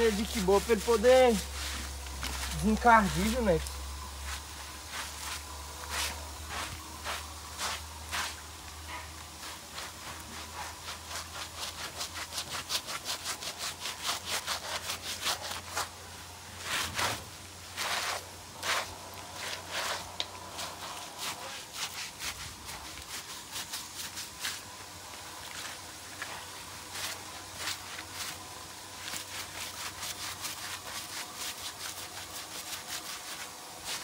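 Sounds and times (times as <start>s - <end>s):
scrub brush rubbing wet coat: 0.0s - 34.0s.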